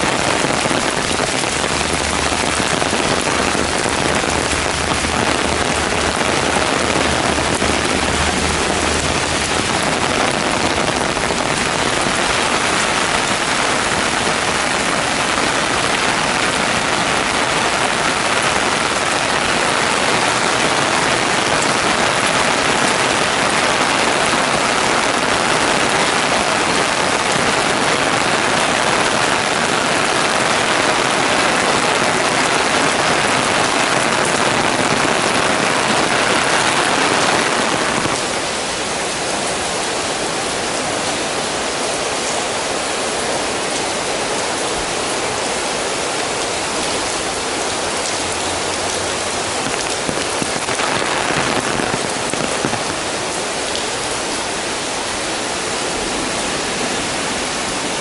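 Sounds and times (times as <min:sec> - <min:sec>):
heavy rain on pavement and foliage: 0:00.0 - 0:58.0.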